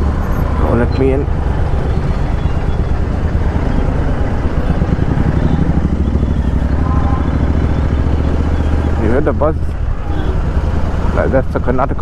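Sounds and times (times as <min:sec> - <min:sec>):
motorcycle engine buzzing: 0:00.0 - 0:12.0.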